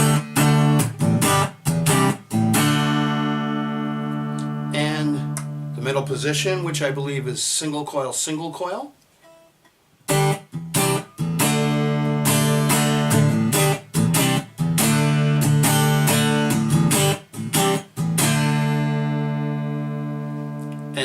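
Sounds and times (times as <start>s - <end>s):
clean electric guitar strumming chords: 0.0s - 7.0s, 10.1s - 21.0s.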